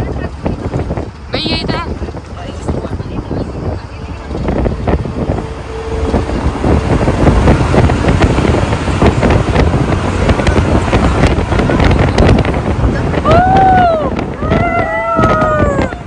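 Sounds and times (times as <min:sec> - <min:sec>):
car road noise in tunnel: 0:00.0 - 0:16.0
wind buffeting microphone: 0:00.0 - 0:16.0.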